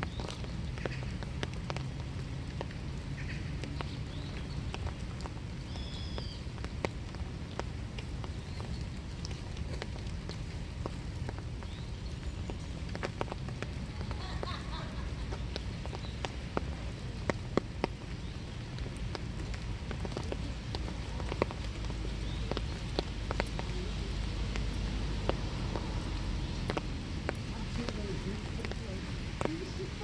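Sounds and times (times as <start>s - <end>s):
rain falling: 0.0s - 30.0s
raindrops tapping on surfaces: 0.0s - 30.0s.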